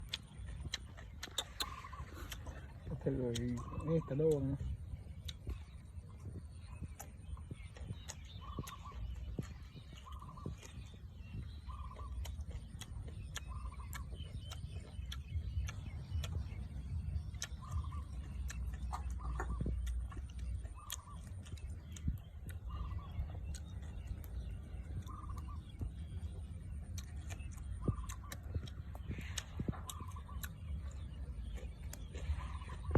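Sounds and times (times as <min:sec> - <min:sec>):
steady low rumble: 0:00.0 - 0:32.9.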